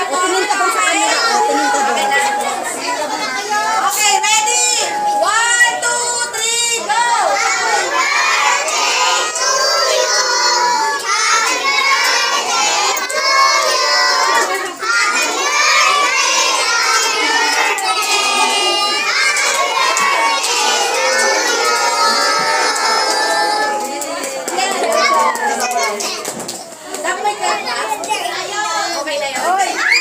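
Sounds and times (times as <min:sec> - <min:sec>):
children shouting and cheering: 0:00.0 - 0:30.0.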